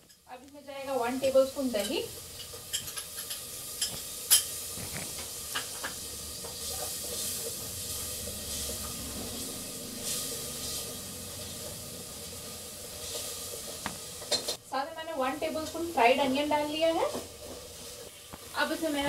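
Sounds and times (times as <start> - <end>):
spices sizzling in a pot: 0.0 - 19.0.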